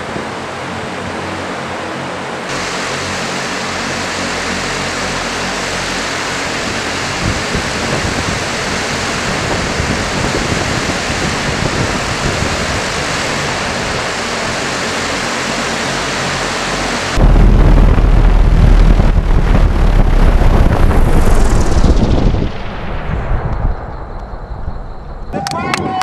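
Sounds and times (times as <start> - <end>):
multicopter rotors whooshing: 0.0 - 24.9
gusty low rumble: 0.0 - 25.4.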